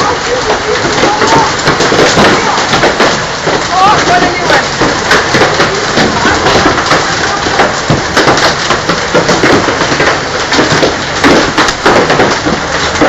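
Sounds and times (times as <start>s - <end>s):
heavy hail clattering: 0.0s - 13.0s.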